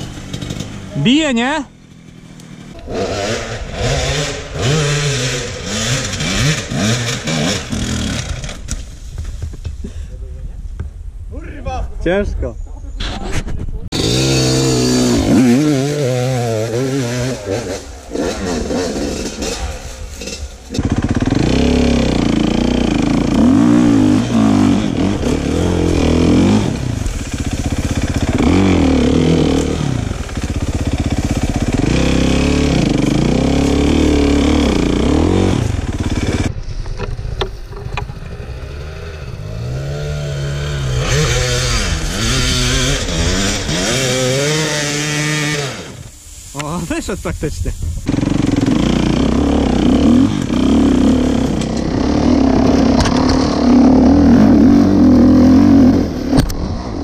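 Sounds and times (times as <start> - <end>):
dirt bike engines revving: 0.0 - 8.8, 13.8 - 57.0.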